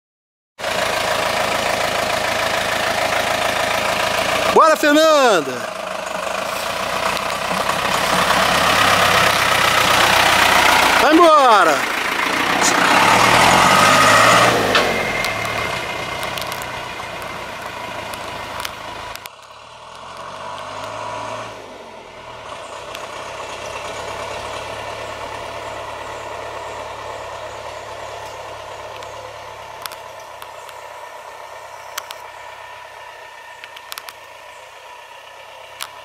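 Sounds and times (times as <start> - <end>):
diesel engine revving: 0.6 - 36.0.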